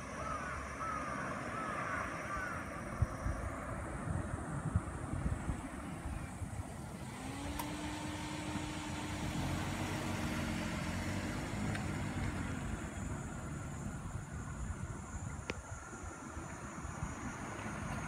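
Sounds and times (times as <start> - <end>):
vehicle engine hum: 0.0 - 18.0
wind rumble on microphone: 2.4 - 18.0.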